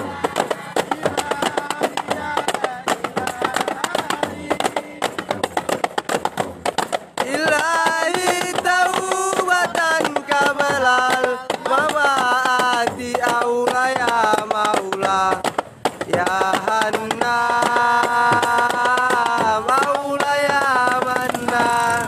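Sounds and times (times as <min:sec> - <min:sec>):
hand-beaten frame drums: 0:00.0 - 0:22.0.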